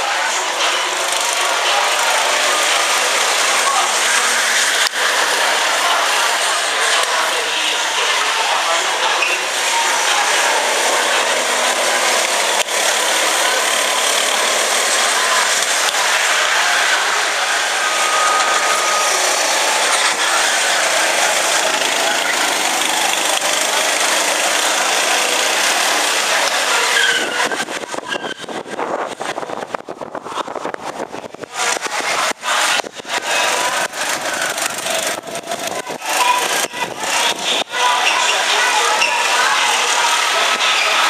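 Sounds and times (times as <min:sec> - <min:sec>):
go-kart engines running: 0:00.0 - 0:41.0.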